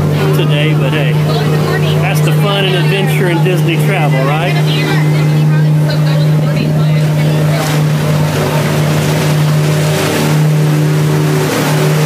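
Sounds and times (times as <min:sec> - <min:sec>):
boat engine droning: 0:00.0 - 0:12.0
water washing along hull: 0:00.0 - 0:12.0.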